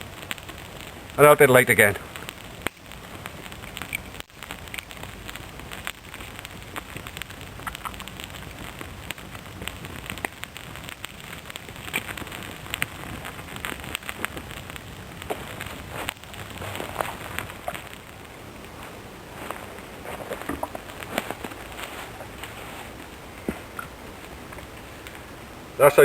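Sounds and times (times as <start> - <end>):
fire crackling and popping: 0.0 - 26.0
light rain hissing: 0.0 - 26.0.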